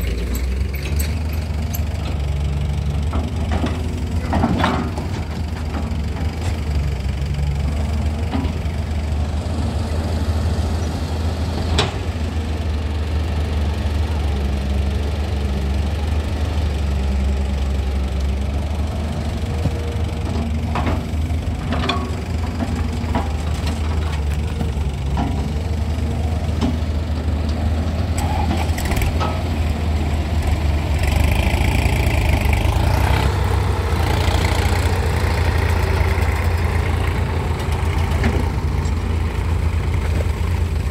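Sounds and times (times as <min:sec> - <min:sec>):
excavator engine running: 0:00.0 - 0:40.9
tractor diesel engine: 0:00.0 - 0:40.9.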